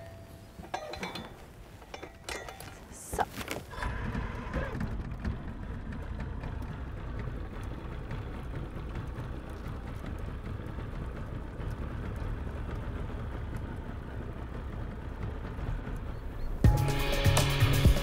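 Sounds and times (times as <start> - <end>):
motorboat engine idling: 3.6 - 18.0.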